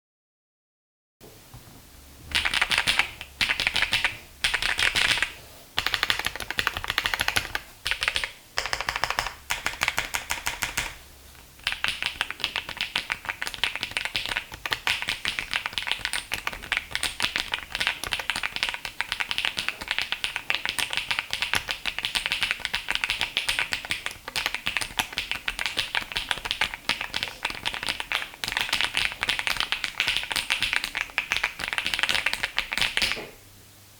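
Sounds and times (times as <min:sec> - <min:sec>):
typing on mechanical keyboard: 0:02.3 - 0:33.2.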